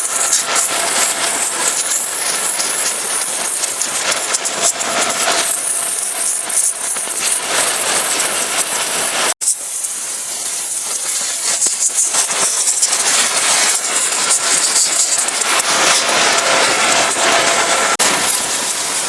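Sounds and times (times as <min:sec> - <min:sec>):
pressure washer spraying water: 0:00.0 - 0:19.0.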